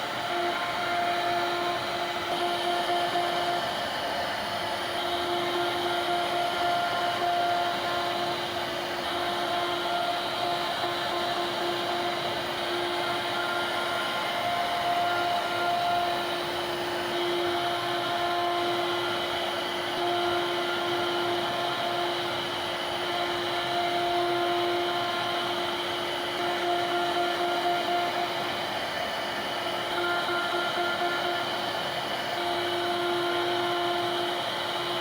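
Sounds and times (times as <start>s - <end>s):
router spindle cutting wood: 0.0s - 35.0s.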